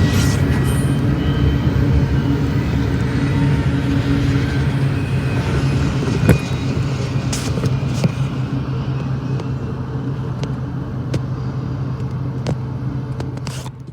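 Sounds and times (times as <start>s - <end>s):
diesel engine drone: 0.0s - 13.9s
train rumble: 0.0s - 13.9s.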